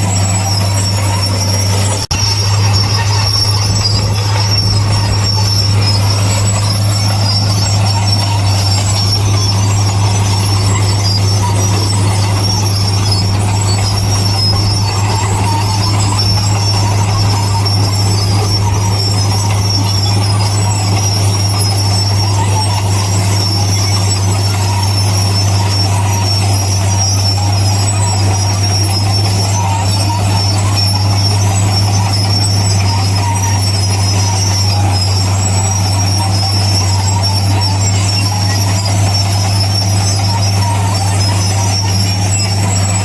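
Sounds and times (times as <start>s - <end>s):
diesel machinery droning: 0.0s - 43.0s.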